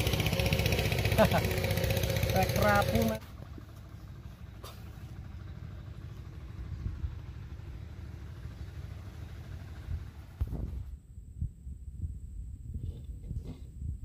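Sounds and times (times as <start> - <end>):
small boat engine rumbling: 0.0 - 11.6.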